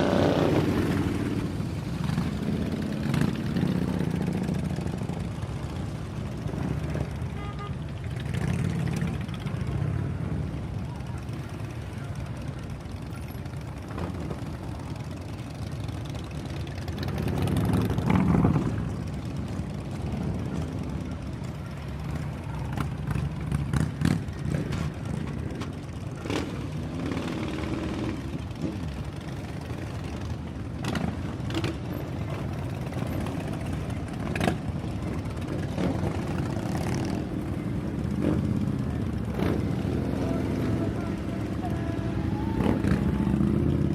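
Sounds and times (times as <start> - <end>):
motorcycle engines running: 0.0 - 43.9.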